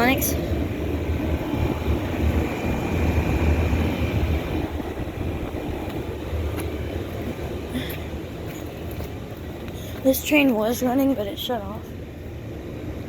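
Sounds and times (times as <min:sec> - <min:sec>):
air conditioner fan hum: 0:00.0 - 0:13.0.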